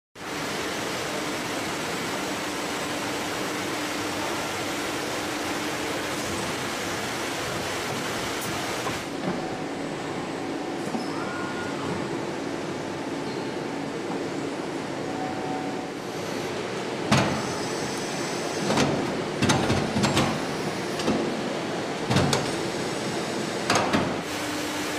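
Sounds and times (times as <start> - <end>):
factory machinery hum and hiss: 0.2 - 24.9.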